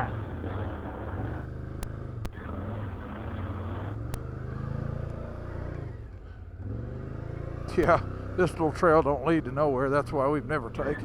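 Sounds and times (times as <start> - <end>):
atv engine revving: 0.0 - 6.0, 6.6 - 11.0.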